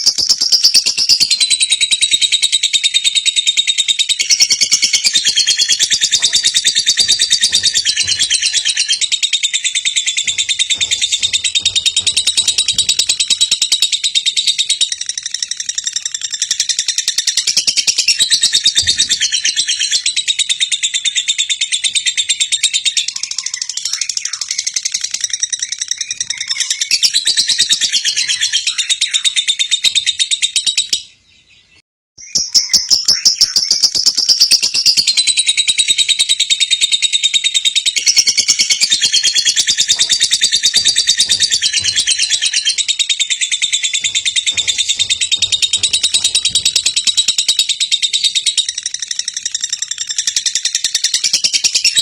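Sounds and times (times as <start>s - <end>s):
lovebird chirping: 0.0s - 52.0s.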